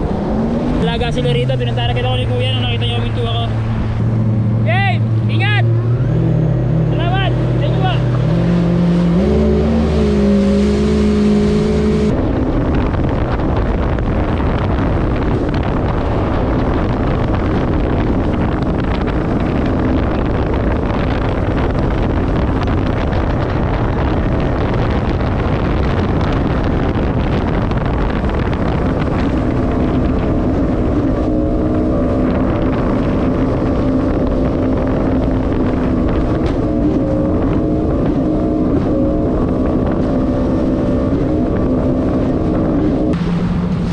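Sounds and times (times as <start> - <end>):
jet ski engine drone: 0.0 - 43.9
wind and water spray rushing: 8.1 - 43.9.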